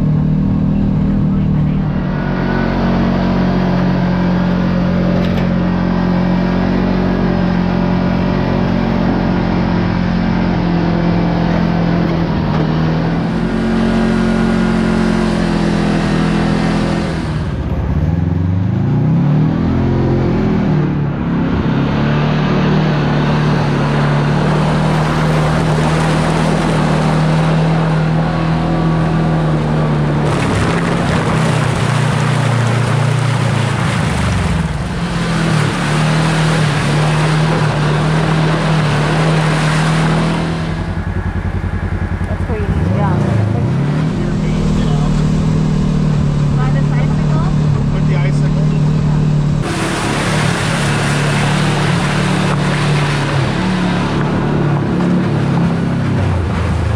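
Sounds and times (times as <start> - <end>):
utility vehicle engine running: 0.0 - 56.9.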